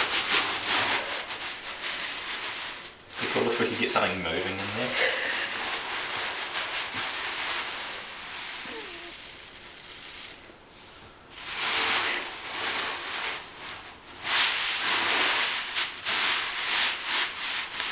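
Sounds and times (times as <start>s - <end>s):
foam beads rustling: 0.0s - 17.9s.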